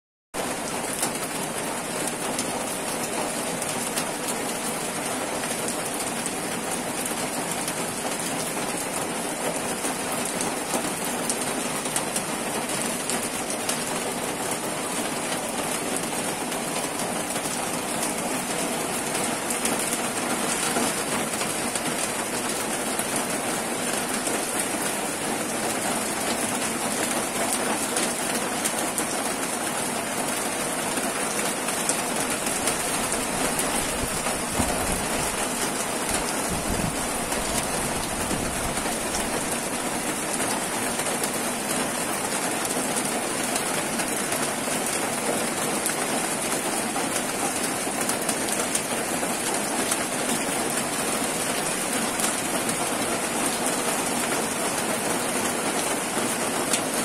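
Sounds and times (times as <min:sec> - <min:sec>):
steady rain on trees: 0:00.4 - 0:57.0.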